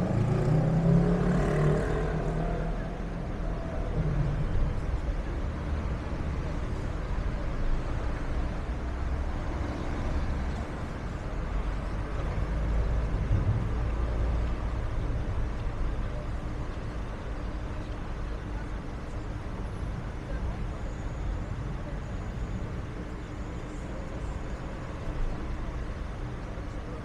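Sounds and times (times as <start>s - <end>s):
city street traffic rumble: 0.0s - 27.0s.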